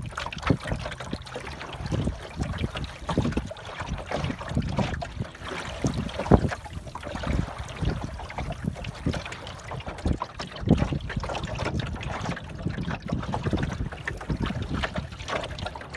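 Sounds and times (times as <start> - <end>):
water lapping against wooden hull: 0.0 - 15.9.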